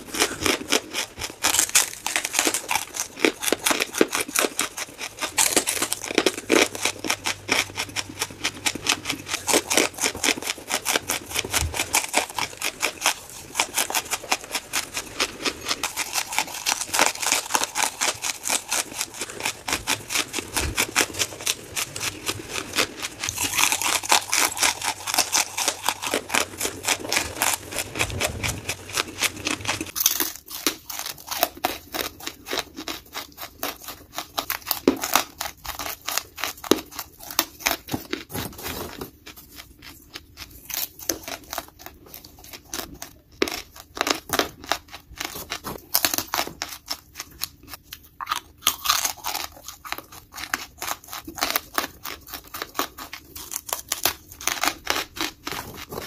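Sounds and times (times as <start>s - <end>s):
charcoal crunching as chewed: 0.0s - 56.0s.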